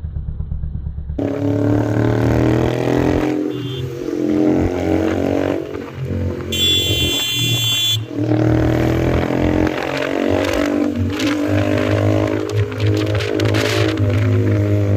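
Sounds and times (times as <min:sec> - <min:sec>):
motorcycle engine running loud: 0:00.0 - 0:14.9.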